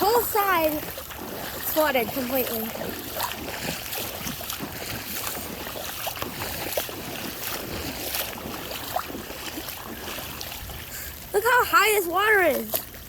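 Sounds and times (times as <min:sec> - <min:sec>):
floodwater rushing down street: 0:00.0 - 0:13.0
small water splashes: 0:00.0 - 0:13.0.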